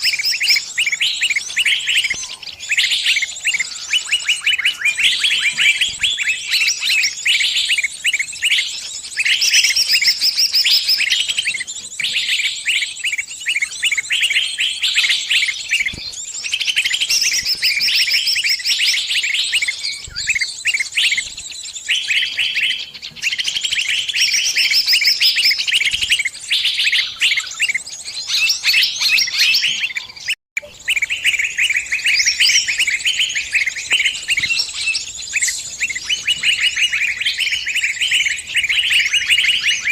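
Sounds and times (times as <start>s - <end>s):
small bird distress chirps: 0.0s - 39.9s.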